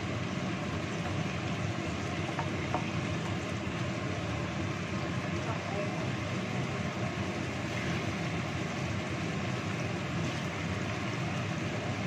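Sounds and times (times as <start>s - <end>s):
stovetop burner rushing: 0.0s - 12.0s.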